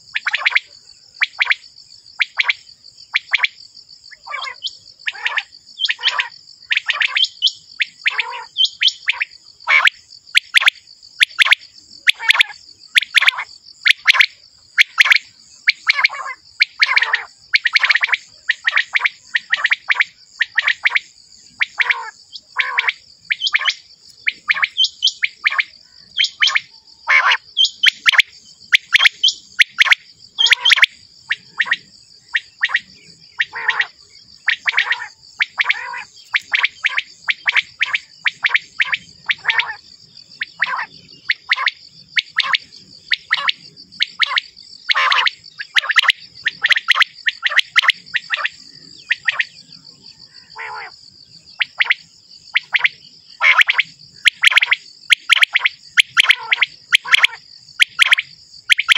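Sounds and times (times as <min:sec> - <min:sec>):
quail calling: 0:04.1 - 0:39.8, 0:40.4 - 0:49.6, 0:50.3 - 0:50.9, 0:51.6 - 0:58.9.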